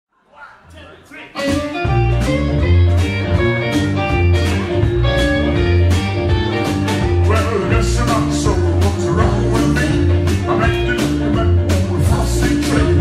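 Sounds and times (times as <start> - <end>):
live rock band playing: 1.4 - 13.0.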